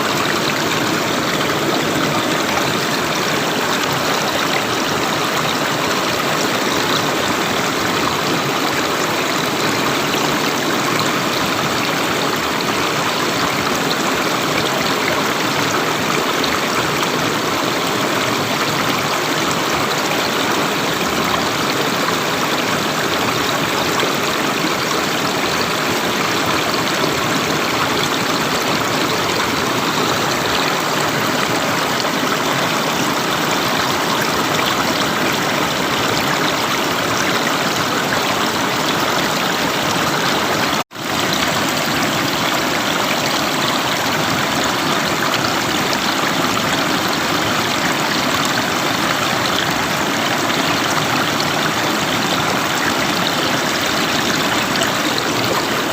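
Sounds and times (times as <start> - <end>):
river water flowing: 0.0 - 55.9.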